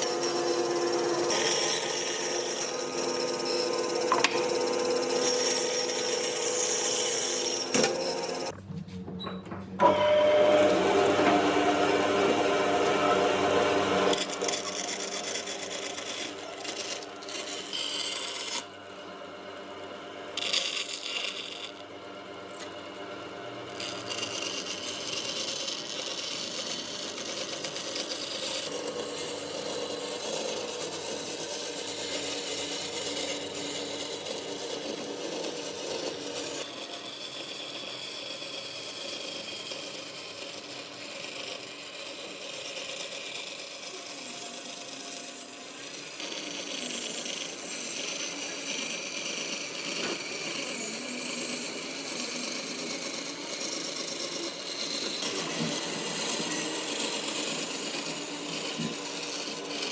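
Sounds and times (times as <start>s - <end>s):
tool rasping wood: 0.0s - 8.6s, 9.9s - 59.9s.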